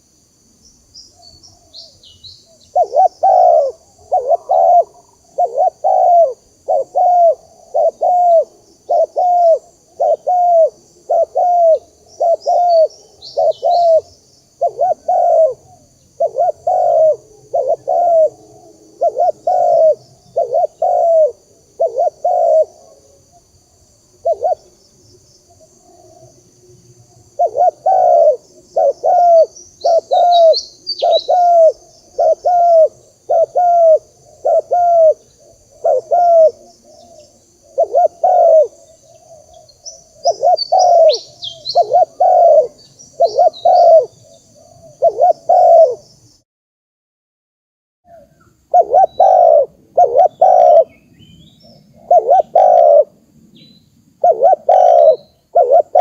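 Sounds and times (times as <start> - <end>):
small bird chirping: 0.6 - 18.4, 19.0 - 23.5, 24.2 - 26.3, 27.3 - 46.4, 48.1 - 56.0
dove cooing: 1.2 - 23.4, 24.2 - 24.8, 25.5 - 26.4, 27.1 - 46.1, 48.1 - 51.0, 51.6 - 53.2, 54.2 - 56.0.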